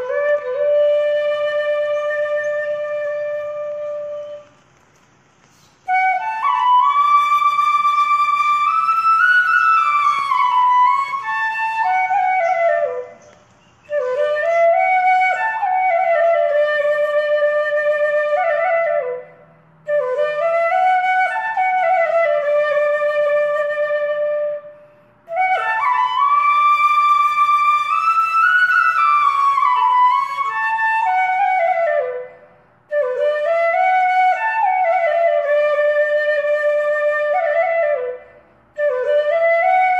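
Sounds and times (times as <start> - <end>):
solo flute melody: 0.0 - 4.8, 5.5 - 39.9.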